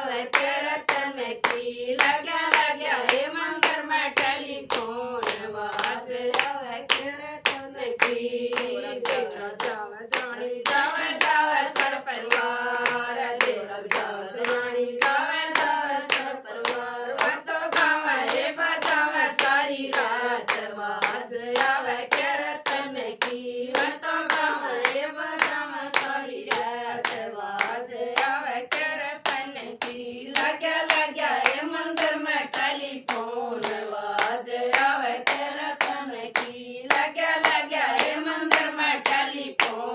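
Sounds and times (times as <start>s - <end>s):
devotional singing: 0.0s - 39.9s
hand clapping beat: 0.0s - 39.9s.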